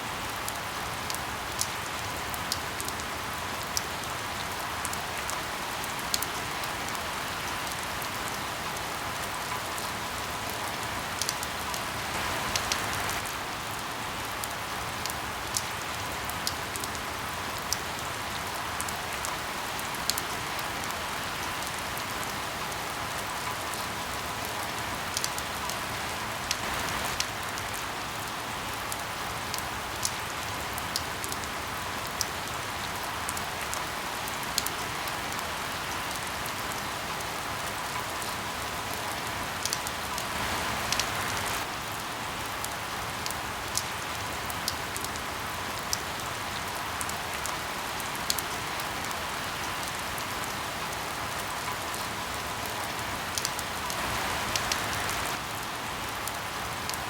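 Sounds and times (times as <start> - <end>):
steady rain falling: 0.0 - 57.0
raindrops ticking on a surface: 0.2 - 57.0.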